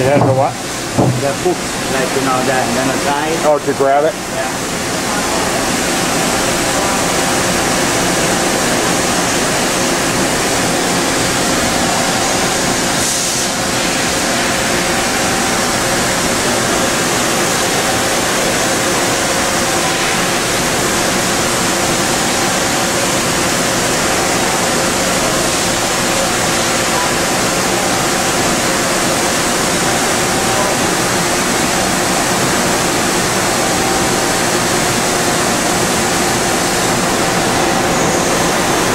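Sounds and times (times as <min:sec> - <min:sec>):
machining center hiss: 0:00.0 - 0:38.9.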